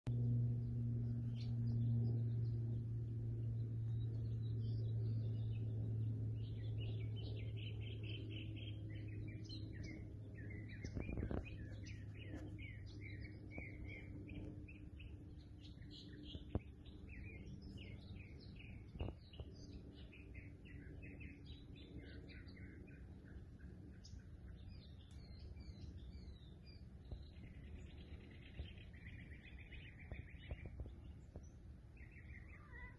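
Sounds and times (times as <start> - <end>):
low steady hum: 0.1 - 32.9
songbirds chirping: 0.1 - 32.9.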